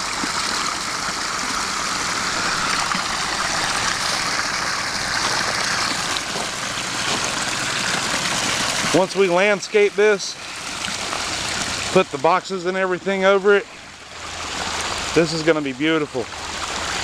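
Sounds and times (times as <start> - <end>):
water rushing down a stream: 0.0 - 17.0.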